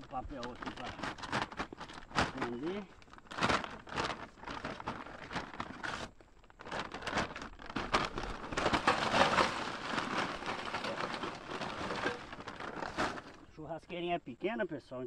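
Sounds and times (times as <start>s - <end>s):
paper sack rustling and crinkling: 0.0s - 13.6s.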